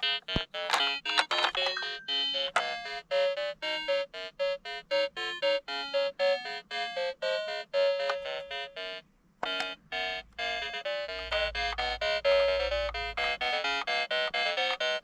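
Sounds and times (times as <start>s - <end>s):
electronic keyboard melody: 0.0s - 15.0s.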